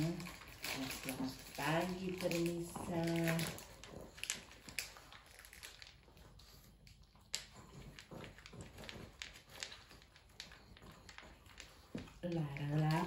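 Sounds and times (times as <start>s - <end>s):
dog crunching dry kibble: 0.0s - 13.0s.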